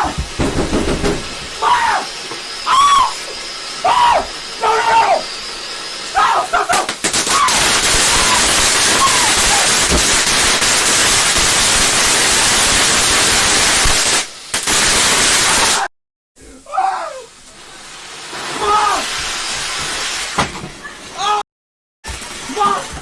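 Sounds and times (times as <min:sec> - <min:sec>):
firework fountain crackling hiss: 0:00.0 - 0:15.9, 0:16.6 - 0:21.3, 0:22.1 - 0:23.0.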